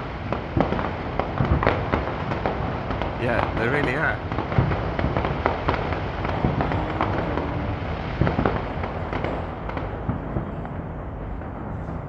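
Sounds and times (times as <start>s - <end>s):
fireworks bangs and crackling: 0.0s - 12.0s
background rumble: 0.1s - 12.0s.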